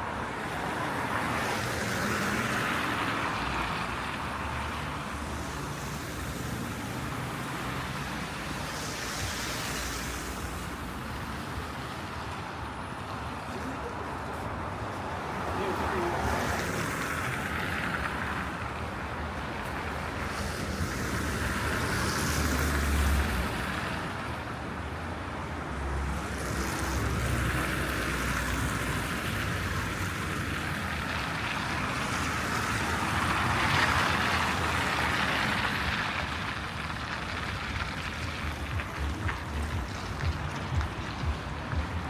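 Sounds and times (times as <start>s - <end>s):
cars passing: 0.0s - 42.0s
street traffic: 0.0s - 42.0s.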